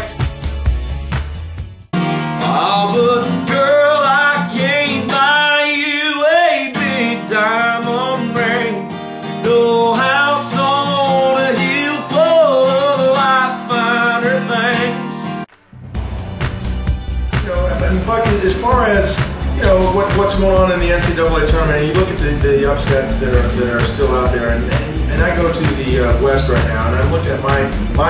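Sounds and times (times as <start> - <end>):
strummed acoustic guitar: 1.9 - 28.0
man singing: 2.4 - 15.4, 17.5 - 28.0.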